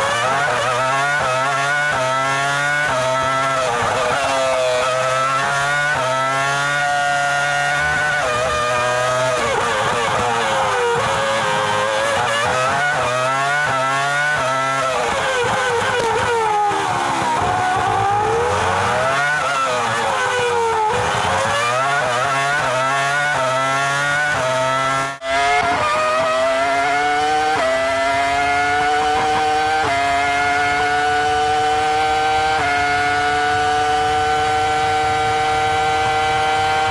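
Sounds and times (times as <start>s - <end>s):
racing car engine revving: 0.0s - 36.9s.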